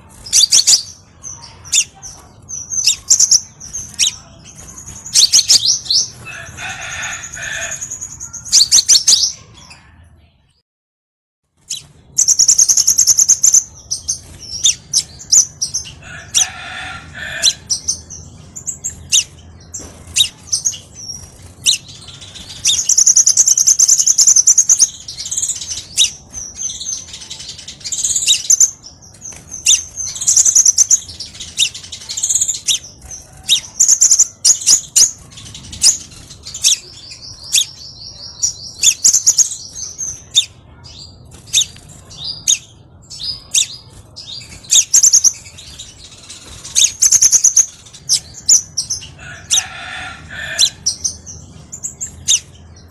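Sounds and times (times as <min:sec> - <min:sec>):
bird chirps and twittering trills: 0:00.0 - 0:10.4, 0:11.5 - 0:52.9.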